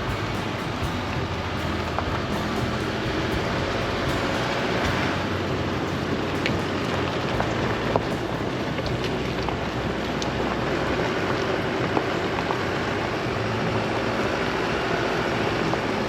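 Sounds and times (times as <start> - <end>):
pickup engine and tyre rumble: 0.0 - 16.0.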